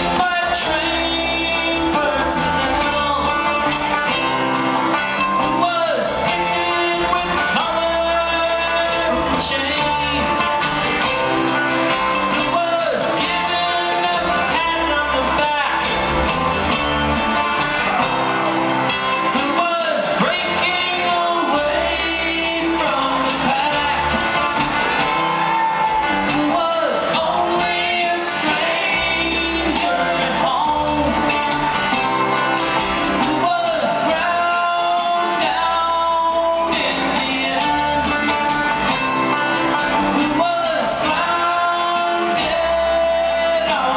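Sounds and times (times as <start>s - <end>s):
man singing: 0.0s - 11.1s, 12.2s - 16.2s, 19.3s - 24.7s, 26.2s - 31.8s, 32.9s - 38.8s, 39.7s - 43.9s
live string band playing: 0.0s - 43.9s.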